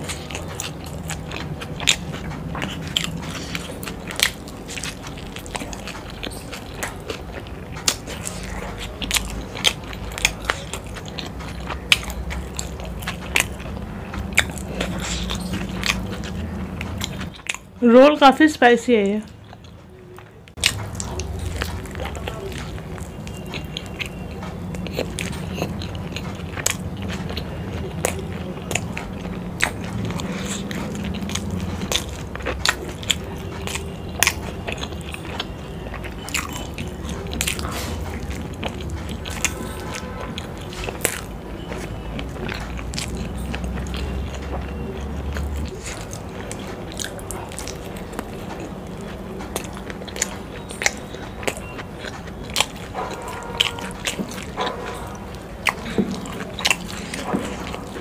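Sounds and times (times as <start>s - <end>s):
mouth clicks and smacks: 0.0s - 17.8s, 19.3s - 58.0s
chewing and biting dumplings: 0.0s - 58.0s.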